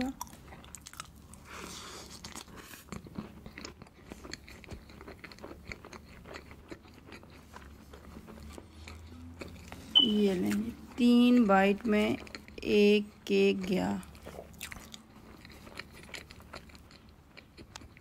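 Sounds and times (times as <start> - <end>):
chewing with mouth clicks: 0.1 - 18.0.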